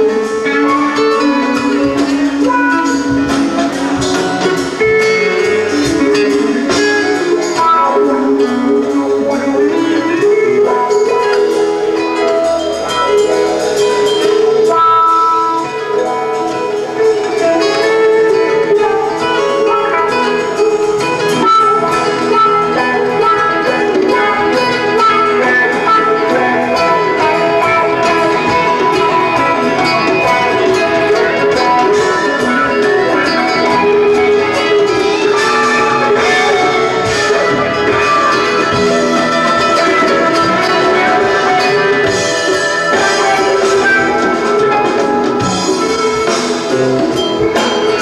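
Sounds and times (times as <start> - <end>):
electric guitars: 0.0 - 48.0
keyboards: 0.0 - 48.0.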